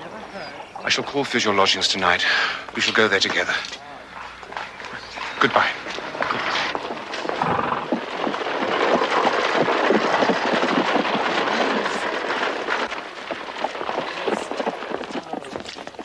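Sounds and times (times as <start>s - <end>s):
carriage wheels on cobbles: 0.0s - 16.0s
horse hooves clattering: 0.0s - 16.0s.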